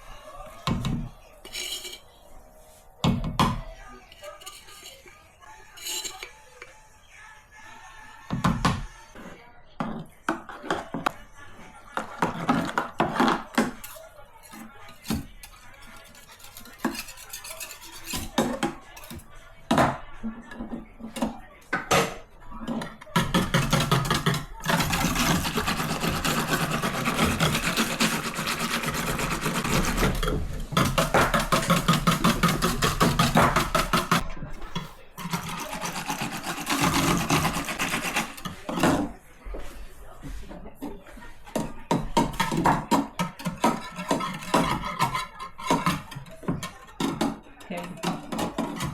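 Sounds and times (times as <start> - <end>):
utensil scraping in a bowl: 0.0 - 2.9, 3.6 - 6.7, 10.3 - 21.3, 22.6 - 48.9
utensils clinking against dishes: 0.0 - 6.8, 8.3 - 39.7, 40.7 - 48.9.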